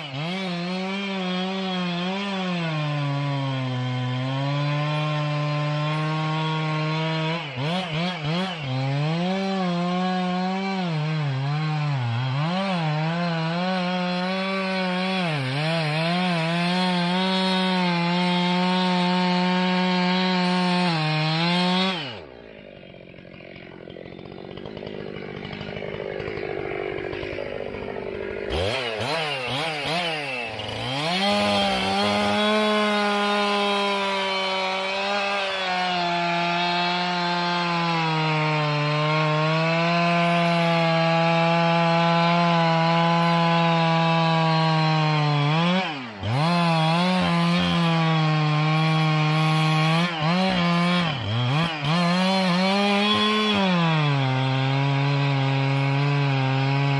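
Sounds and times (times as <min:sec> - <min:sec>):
chainsaw running at high revs: 0:00.0 - 0:56.9.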